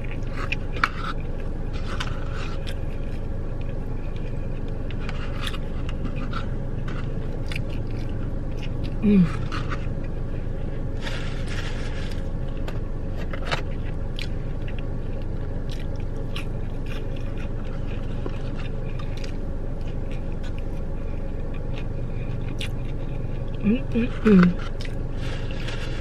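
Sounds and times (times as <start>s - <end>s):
chewing and crunching food: 0.0s - 26.0s
low hum: 0.0s - 26.0s.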